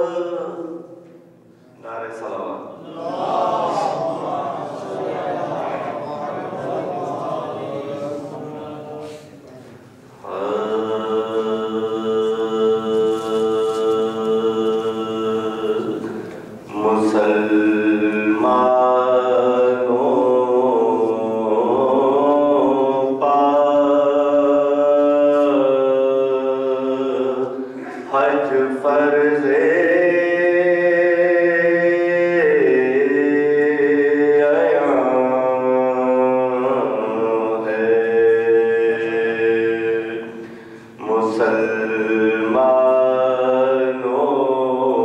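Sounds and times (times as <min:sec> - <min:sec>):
man chanting into microphone: 0:00.0 - 0:01.1, 0:01.8 - 0:09.5, 0:10.2 - 0:45.0.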